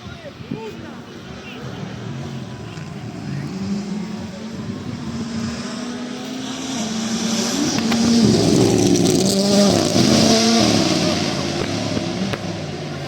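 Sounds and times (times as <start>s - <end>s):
rally car engine with gear changes: 0.3s - 13.0s.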